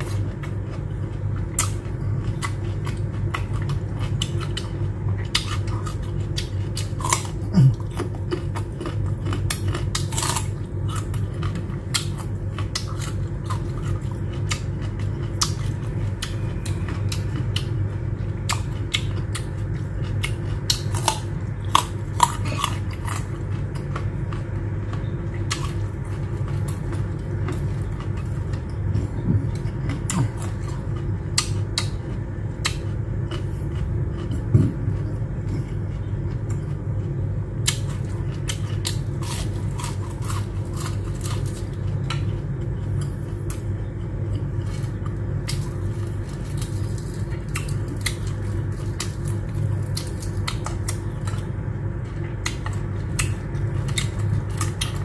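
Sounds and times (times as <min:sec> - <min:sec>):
chewing crispy fried food: 0:00.0 - 0:55.0
steady low hum: 0:00.0 - 0:55.0.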